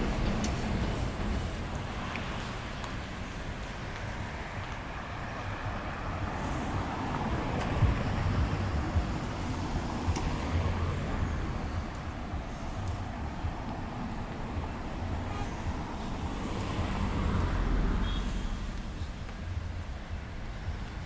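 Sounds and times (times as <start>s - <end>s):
low rumble of passing vehicles: 0.0s - 21.0s.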